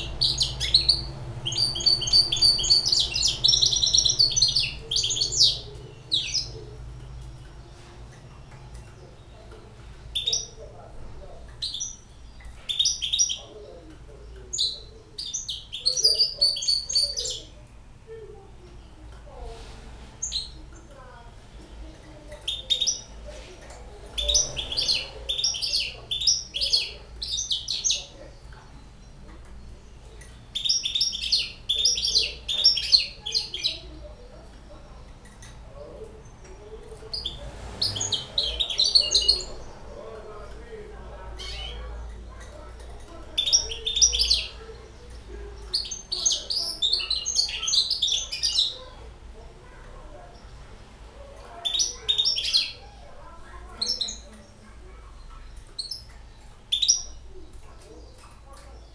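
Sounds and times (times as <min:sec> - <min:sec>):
bird twittering song: 0:00.0 - 0:19.1, 0:20.2 - 0:49.1, 0:51.5 - 0:58.9.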